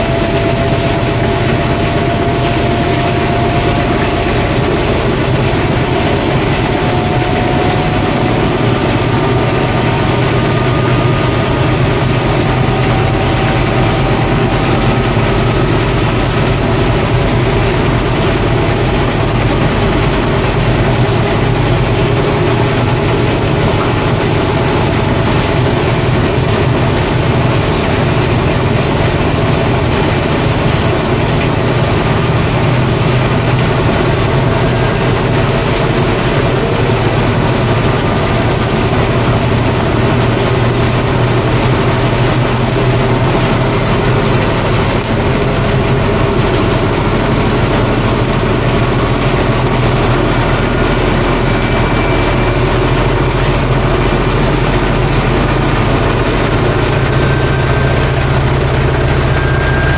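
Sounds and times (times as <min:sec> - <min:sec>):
motor whine: 0:00.0 - 0:59.9
washing machine spinning: 0:00.0 - 0:59.9.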